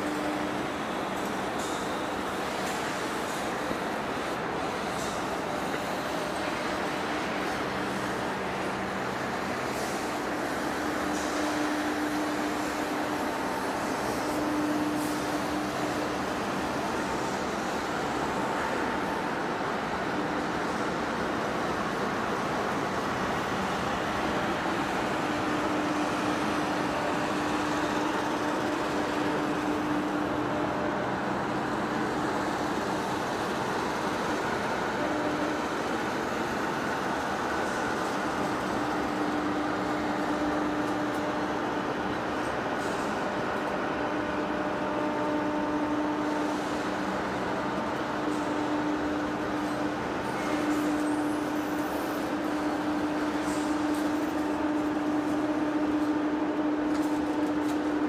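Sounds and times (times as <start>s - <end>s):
industrial machinery running: 0.0s - 58.0s.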